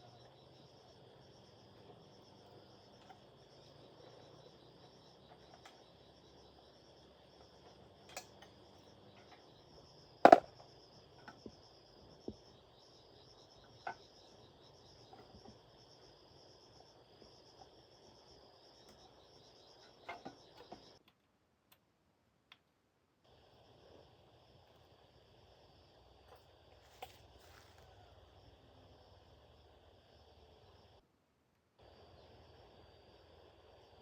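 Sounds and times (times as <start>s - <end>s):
insects chirring: 0.0s - 21.0s, 23.3s - 31.0s, 31.8s - 34.0s.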